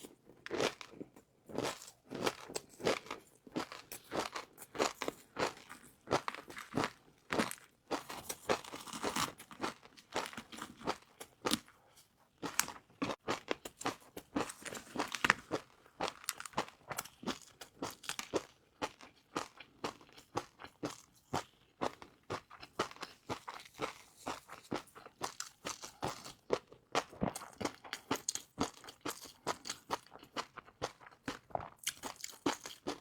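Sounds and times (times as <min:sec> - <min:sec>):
chewing crispy noodles: 0:00.0 - 0:33.0.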